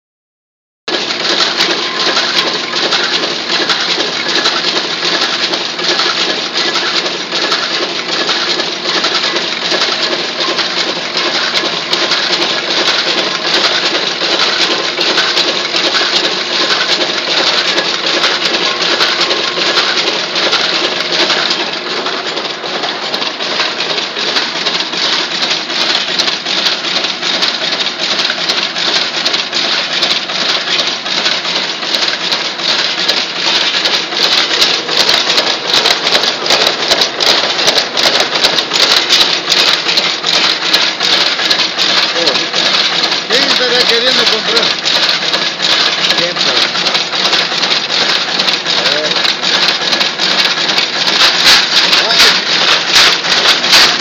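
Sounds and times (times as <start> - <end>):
weaving looms clattering: 0.9 - 54.0.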